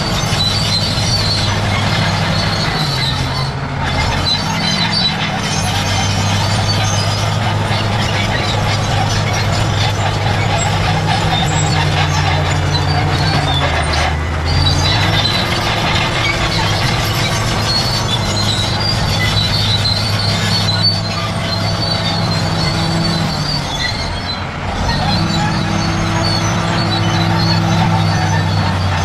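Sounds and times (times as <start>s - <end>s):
bulldozer diesel engine running: 0.0s - 29.0s
steel tracks squealing: 0.0s - 29.0s.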